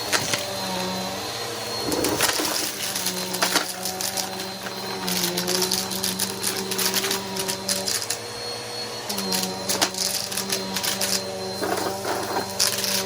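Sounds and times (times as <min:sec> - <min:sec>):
vacuum cleaner motor humming: 0:00.0 - 0:13.0.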